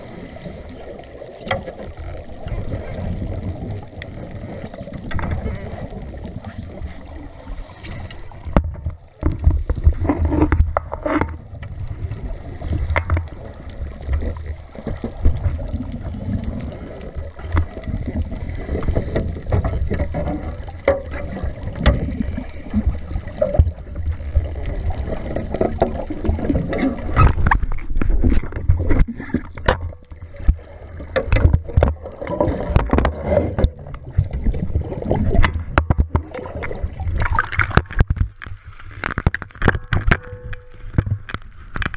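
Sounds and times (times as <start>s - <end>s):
gurgling exhaled bubbles: 0.0s - 40.4s
low uneven underwater rumble: 0.0s - 41.9s.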